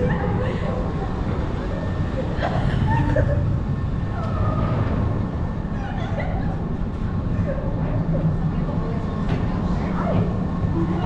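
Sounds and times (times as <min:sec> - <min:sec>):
amusement ride rumbling: 0:00.0 - 0:11.0.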